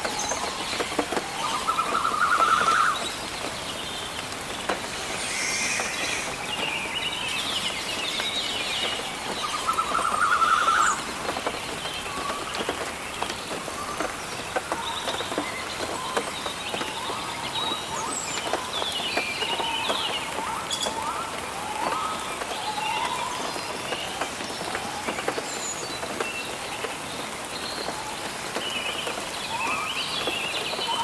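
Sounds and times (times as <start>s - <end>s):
birds chirping: 0.0s - 31.0s
raindrops pattering: 0.0s - 31.0s
steady rain in forest: 0.0s - 31.0s.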